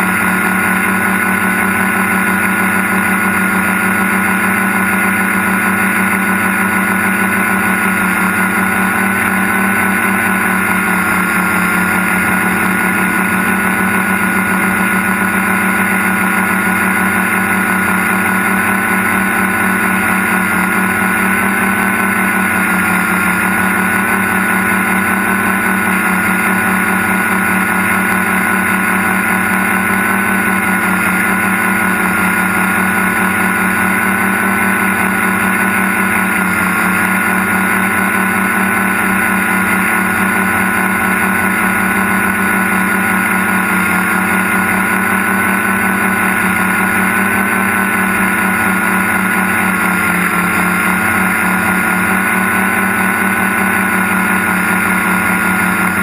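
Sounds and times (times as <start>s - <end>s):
electric motors and propellers whining: 0.0s - 56.0s.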